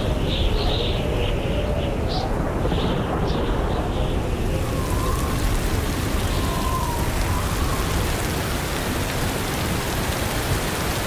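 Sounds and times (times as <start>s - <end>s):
low rumble of thunder: 0.0s - 11.0s
steady rain falling: 0.0s - 11.0s.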